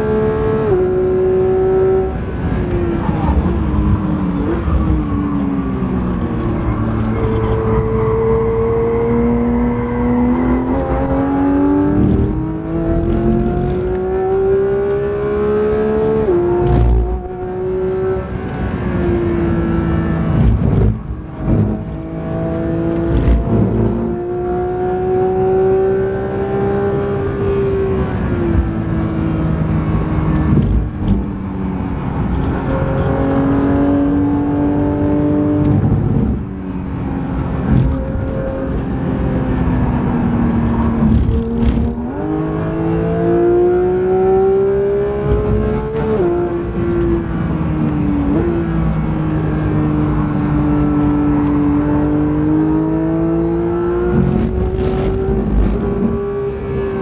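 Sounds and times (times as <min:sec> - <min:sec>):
car engine accelerating: 0:00.0 - 0:57.0
tyre and road noise: 0:00.0 - 0:57.0.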